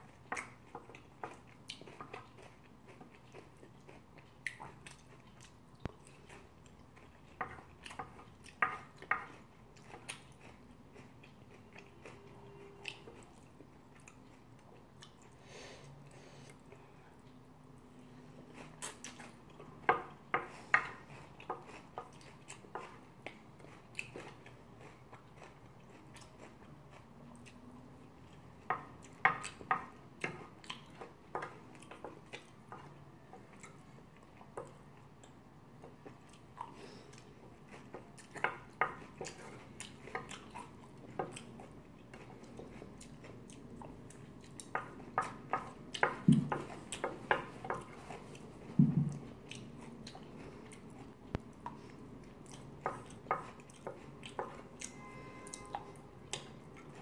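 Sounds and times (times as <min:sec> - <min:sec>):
close chewing: 0:00.0 - 0:15.4, 0:18.4 - 0:57.0.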